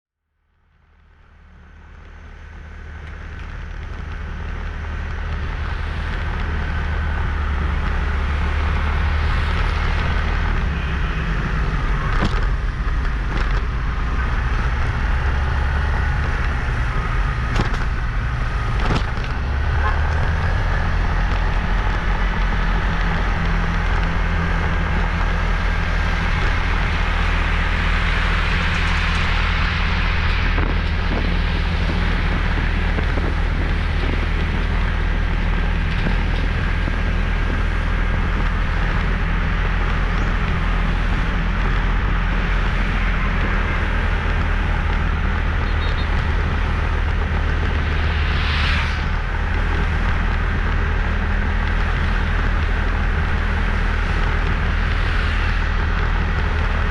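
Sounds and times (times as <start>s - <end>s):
road and wind noise: 0.2s - 56.9s.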